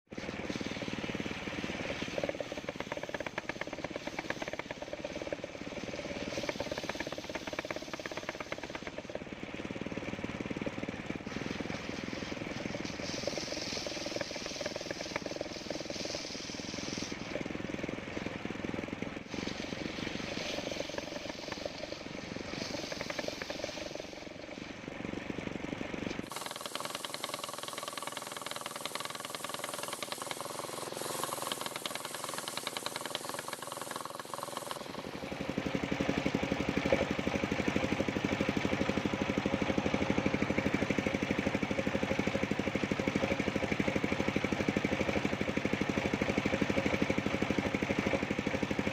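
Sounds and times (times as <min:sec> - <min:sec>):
circular sawmill sawing wood: 0:00.1 - 0:48.9.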